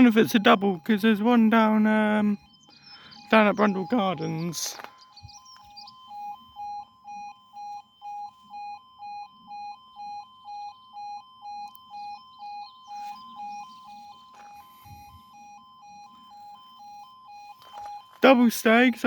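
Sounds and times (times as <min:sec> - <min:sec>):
two-tone level crossing alarm: 0:00.0 - 0:19.0.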